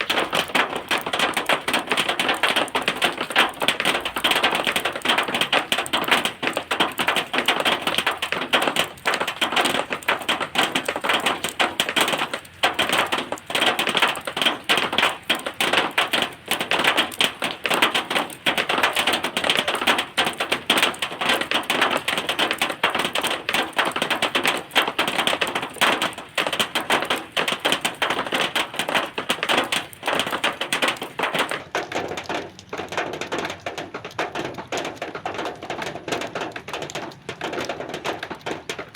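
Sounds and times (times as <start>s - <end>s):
rain on a metal sheet: 0.0s - 38.9s.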